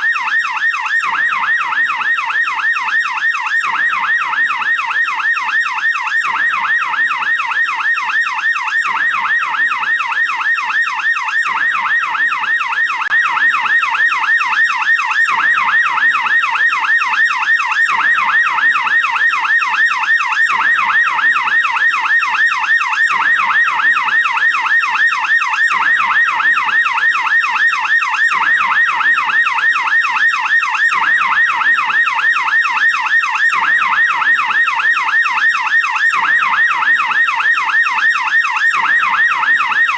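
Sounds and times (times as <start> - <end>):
police yelp siren: 0.0 - 39.9.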